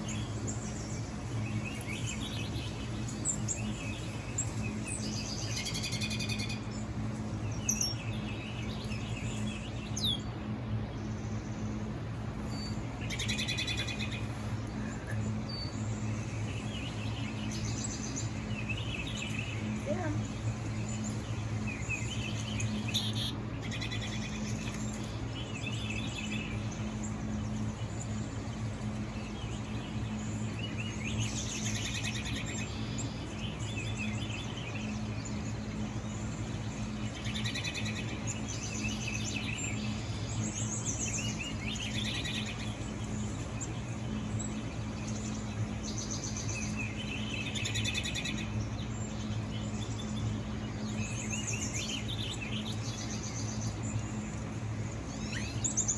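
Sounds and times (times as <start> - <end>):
small birds chirping: 0.0 - 55.9
steady low hum: 0.0 - 55.9.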